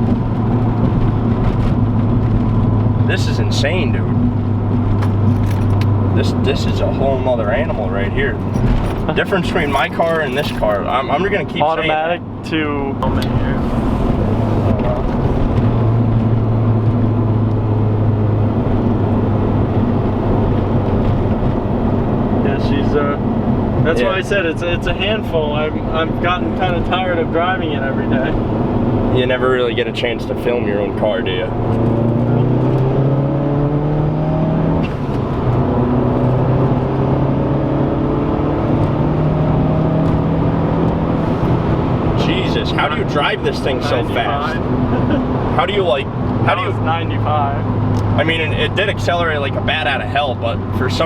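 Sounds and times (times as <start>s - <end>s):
car engine drone: 0.0s - 51.0s
road noise: 0.0s - 51.0s.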